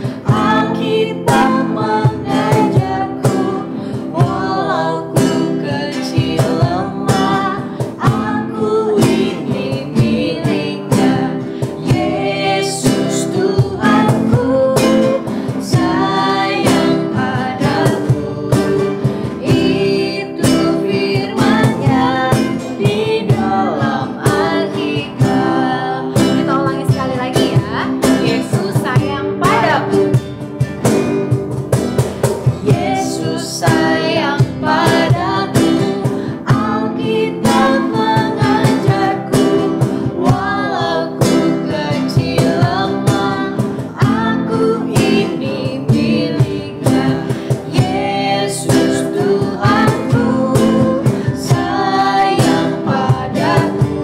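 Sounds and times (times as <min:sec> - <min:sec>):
man and woman singing worship song: 0:00.0 - 0:30.3, 0:32.1 - 0:54.0
strummed acoustic guitars: 0:00.0 - 0:54.0.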